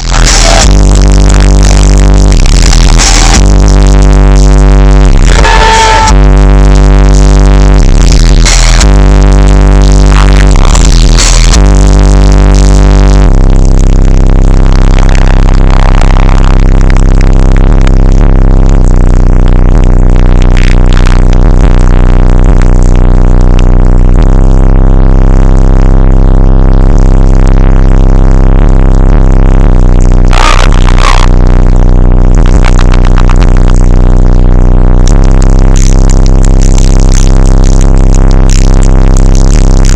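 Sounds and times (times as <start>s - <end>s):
electronic music with heavy bass: 0.0s - 39.9s.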